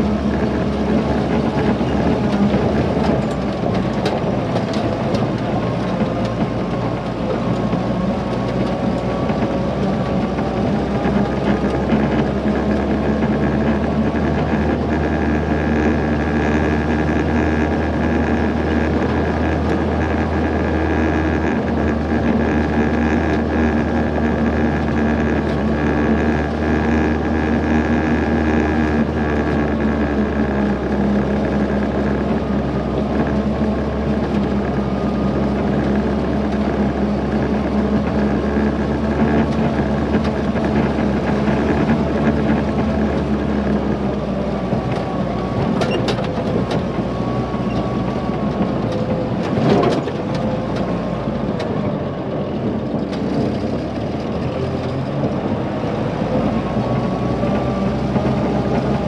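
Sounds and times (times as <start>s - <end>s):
body clunks and rattles: 0.0s - 50.9s
jeep engine running: 0.0s - 59.0s.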